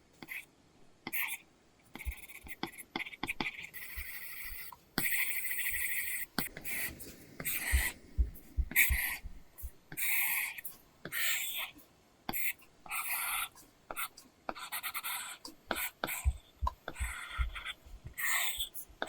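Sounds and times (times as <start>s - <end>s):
pen strokes on screen film: 0.2s - 0.5s, 1.1s - 19.0s
pen nib taps: 2.0s - 11.2s, 12.3s - 19.0s.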